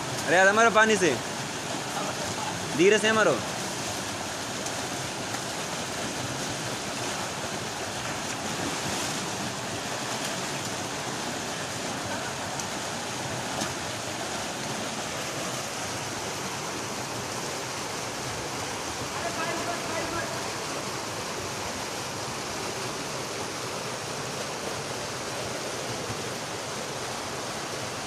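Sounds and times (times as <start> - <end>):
waterfall rushing over rock: 0.0 - 28.0.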